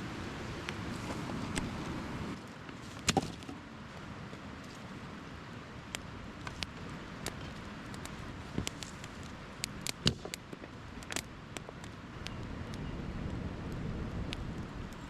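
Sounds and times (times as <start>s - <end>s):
campfire crackling and popping: 0.2s - 15.0s.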